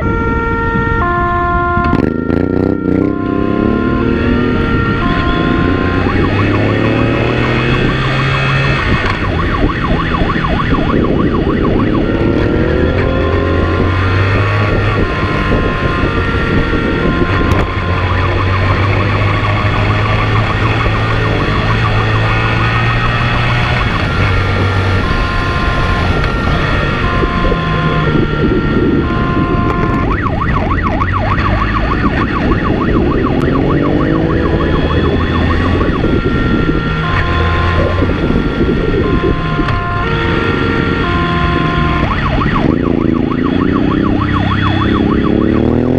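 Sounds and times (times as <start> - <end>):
police two-tone siren: 0.0 - 45.9
motorcycle engine revving: 0.5 - 45.9.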